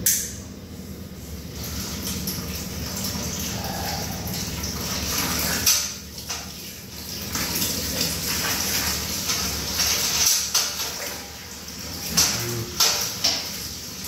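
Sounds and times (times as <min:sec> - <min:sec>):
pump running: 0:00.6 - 0:14.0
liquid pouring and splashing: 0:01.4 - 0:14.0.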